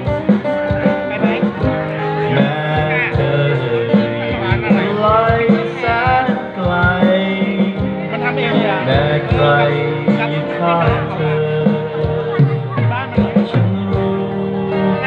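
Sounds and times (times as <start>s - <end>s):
drum hits: 0.0s - 15.0s
strummed acoustic guitar: 0.0s - 15.0s
man singing: 1.0s - 15.0s.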